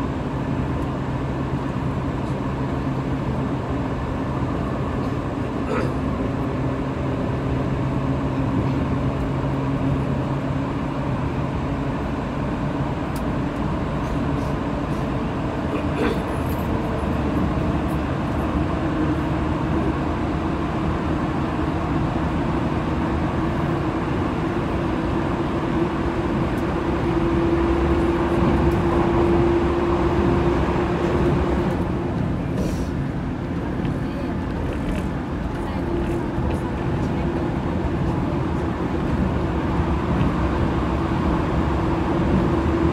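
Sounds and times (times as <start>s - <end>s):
train motor humming: 0.0s - 42.9s
wheels rumbling on rail: 0.0s - 42.9s.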